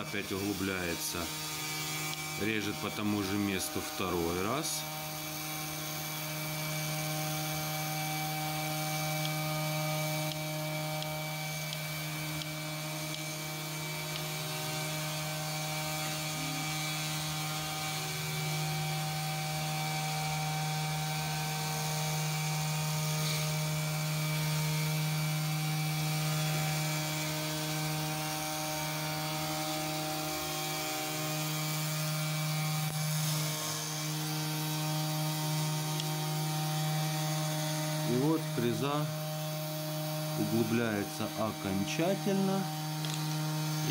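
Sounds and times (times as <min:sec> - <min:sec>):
router spindle hum and whine: 0:00.0 - 0:43.9.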